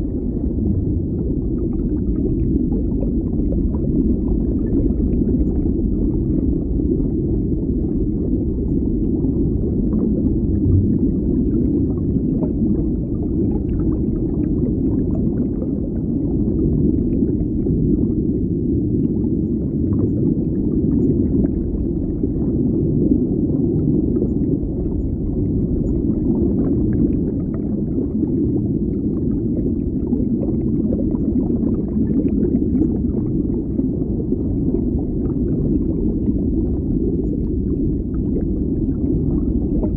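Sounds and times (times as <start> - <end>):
faint crackles and pops: 0.0 - 39.9
muffled underwater rumble: 0.0 - 39.9.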